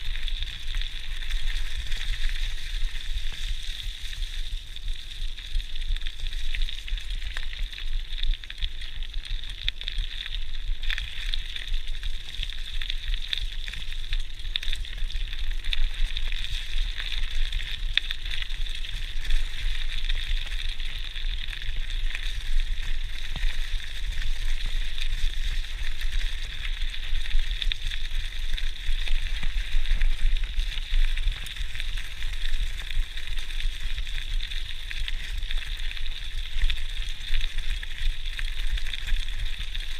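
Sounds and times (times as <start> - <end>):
bike tyres rolling on gravel: 0.0 - 39.9.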